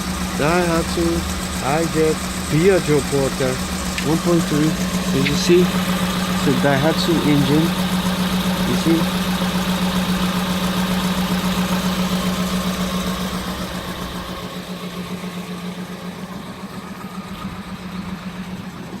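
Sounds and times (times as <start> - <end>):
engine idling roughly and misfiring: 0.0 - 19.0.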